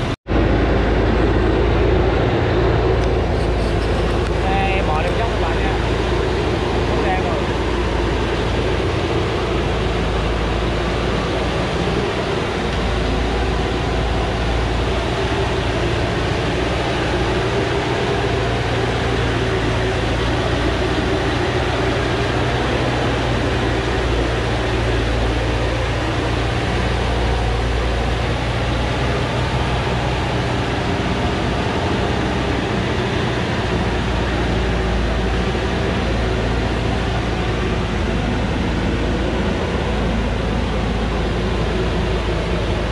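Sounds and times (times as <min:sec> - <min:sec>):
truck engine under load: 0:00.0 - 0:42.9.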